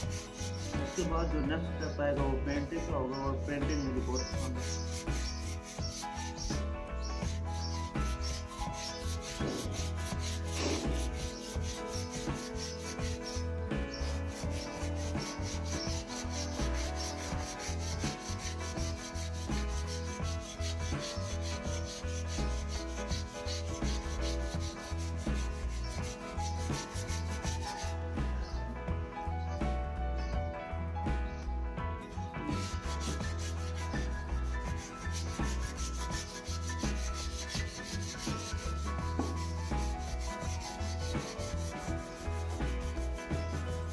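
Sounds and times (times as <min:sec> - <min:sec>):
sandpaper rubbing on wood: 0:00.0 - 0:01.4, 0:02.5 - 0:28.6, 0:32.2 - 0:43.9.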